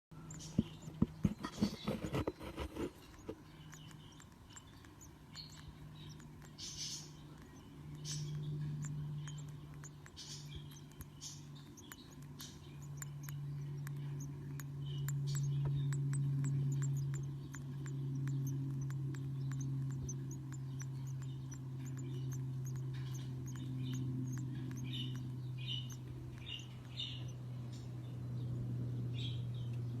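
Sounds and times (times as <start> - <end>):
steady low hum: 0.1 - 30.0
sharp clicks: 0.2 - 28.1
budgerigars chirping: 0.2 - 30.0.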